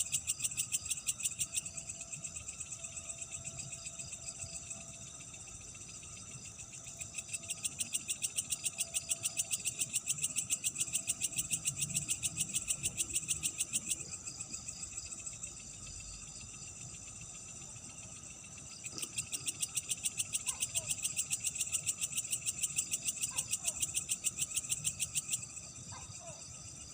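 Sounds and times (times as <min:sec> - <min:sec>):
crickets trilling: 0:00.0 - 0:26.9
insect chirping rhythmically: 0:00.0 - 0:26.9.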